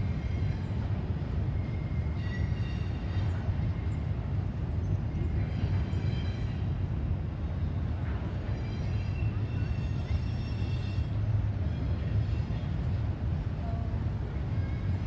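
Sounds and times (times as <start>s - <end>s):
train rumbling over steel bridge: 0.0s - 15.0s.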